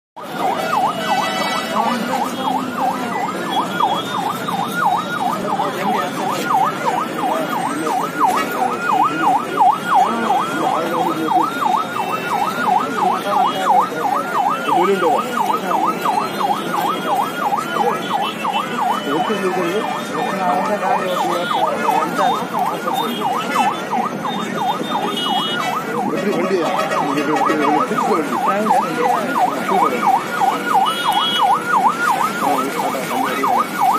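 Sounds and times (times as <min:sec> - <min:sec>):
siren yelping: 0:00.2 - 0:33.9.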